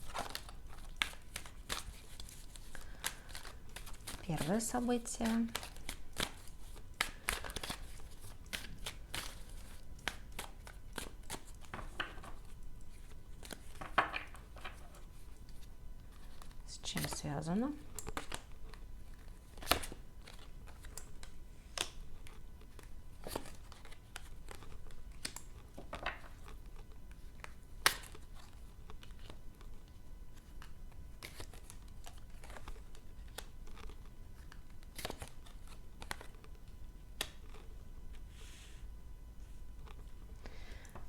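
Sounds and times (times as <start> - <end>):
cards rustling and snapping: 0.0 - 38.2.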